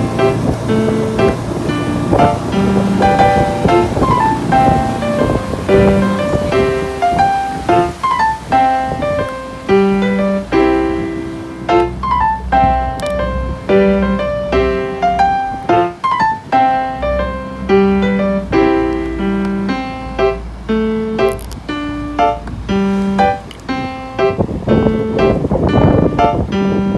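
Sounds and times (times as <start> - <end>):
keyboard melody: 0.0 - 26.9.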